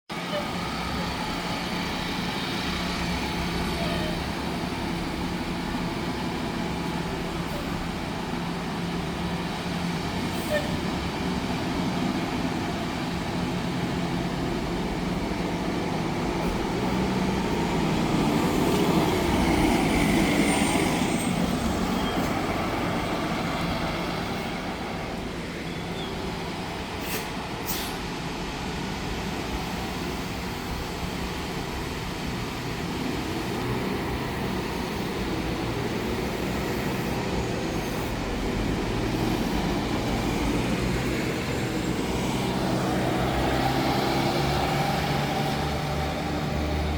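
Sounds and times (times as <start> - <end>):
heavy vehicles running: 0.1 - 46.9.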